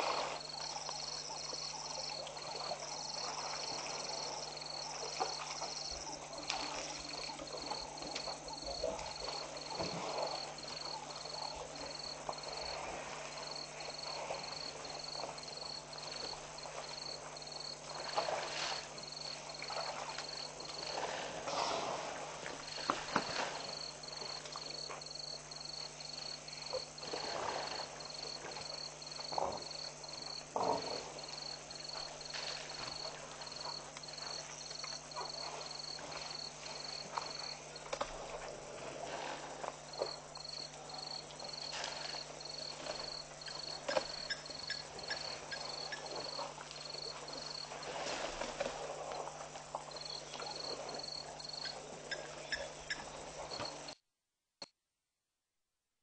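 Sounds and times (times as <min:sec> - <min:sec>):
insect chirping: 0:00.0 - 0:21.9, 0:22.5 - 0:54.0.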